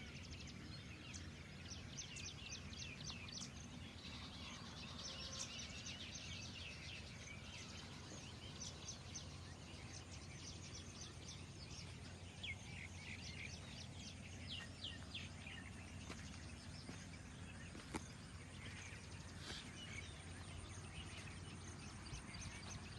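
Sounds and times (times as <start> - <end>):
birds chirping: 0.0 - 22.9
low background rumble: 0.0 - 22.9.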